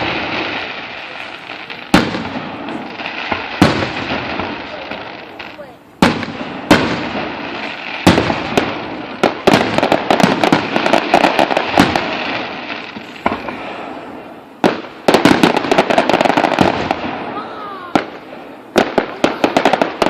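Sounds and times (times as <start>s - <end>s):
fireworks exploding: 0.0s - 20.0s.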